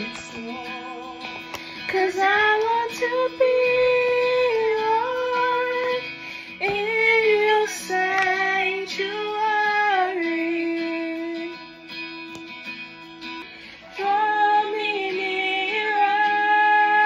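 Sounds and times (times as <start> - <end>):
woman singing long held notes: 0.0 - 11.6, 13.9 - 17.0
plucked guitar: 0.0 - 17.0.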